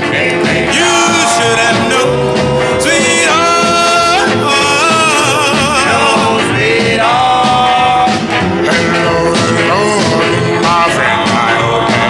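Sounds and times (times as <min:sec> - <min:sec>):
band playing: 0:00.0 - 0:12.0
male vocal group singing in harmony: 0:00.0 - 0:12.0.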